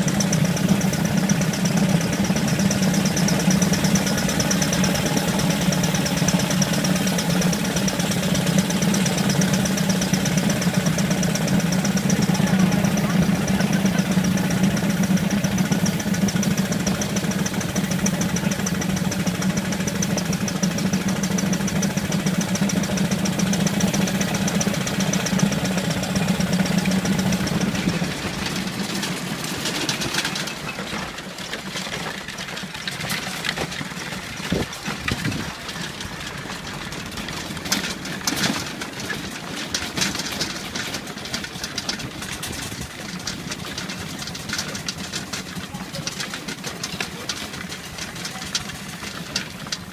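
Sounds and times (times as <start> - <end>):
steam traction engine droning: 0.0 - 49.9.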